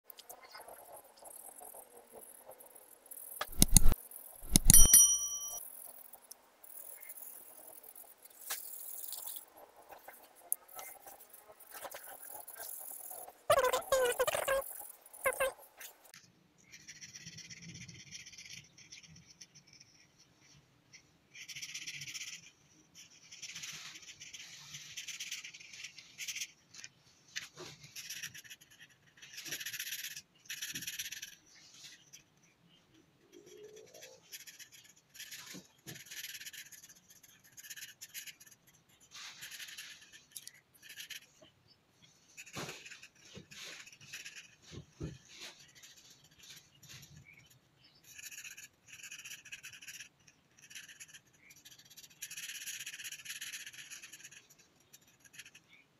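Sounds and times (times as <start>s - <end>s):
marker scratching on paper: 3.4s - 4.9s, 6.8s - 26.5s, 27.4s - 32.2s, 33.6s - 41.4s, 42.2s - 55.6s.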